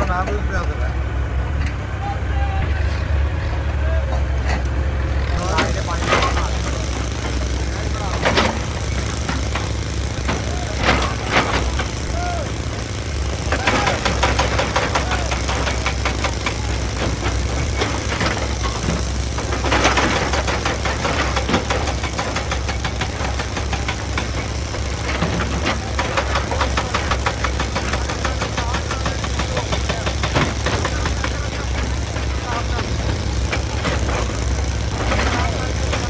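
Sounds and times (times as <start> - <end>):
excavator knocking and rattling on rock: 0.0 - 0.8, 4.0 - 36.0
excavator diesel engine under load: 0.0 - 36.0.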